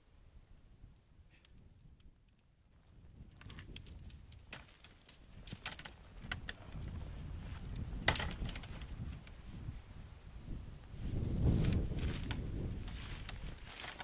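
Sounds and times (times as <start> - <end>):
wind buffeting microphone: 0.8 - 4.6, 5.2 - 14.0
tent poles clicking and rustling: 1.3 - 9.7, 11.1 - 14.0.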